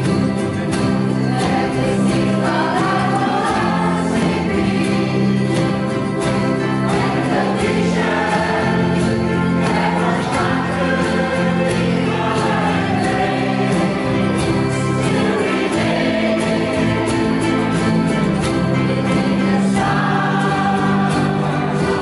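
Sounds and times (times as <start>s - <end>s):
instrumental accompaniment with beat: 0.0s - 22.0s
voices singing together: 0.0s - 22.0s.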